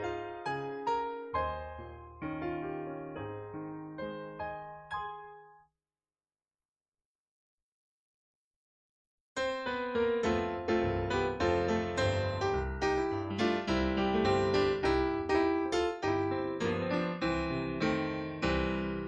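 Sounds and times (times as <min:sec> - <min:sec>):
slow piano piece: 0:00.0 - 0:05.7, 0:09.4 - 0:19.0.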